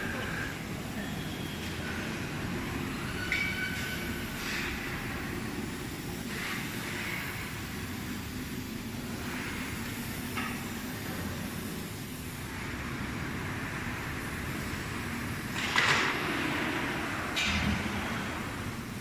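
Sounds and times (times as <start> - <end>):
dehumidifier fan and airflow: 0.0 - 19.0.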